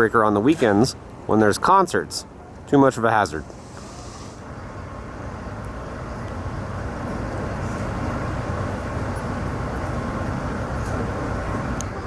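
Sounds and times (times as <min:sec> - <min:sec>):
distant low engine rumble: 0:00.0 - 0:12.0.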